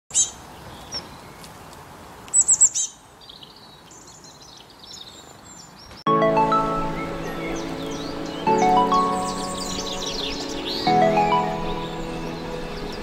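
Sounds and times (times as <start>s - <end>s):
songbird chirping and twittering: 0.1s - 13.0s.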